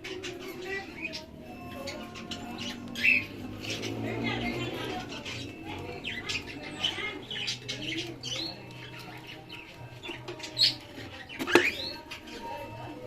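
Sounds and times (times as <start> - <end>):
budgerigars chirping: 0.0 - 12.9.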